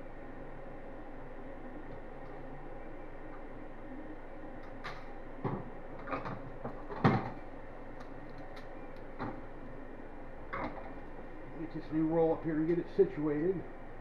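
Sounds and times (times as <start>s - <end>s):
three d printer humming: 0.0s - 14.0s.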